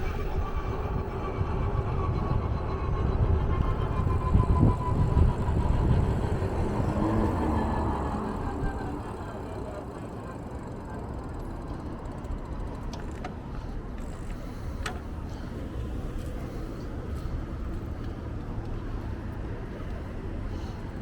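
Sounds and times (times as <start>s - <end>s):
moving vehicle rumble: 0.0s - 21.0s.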